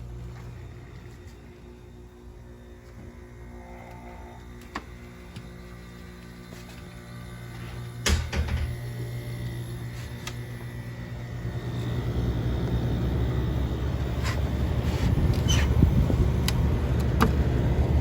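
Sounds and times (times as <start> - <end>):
air conditioner hum: 0.0 - 18.0.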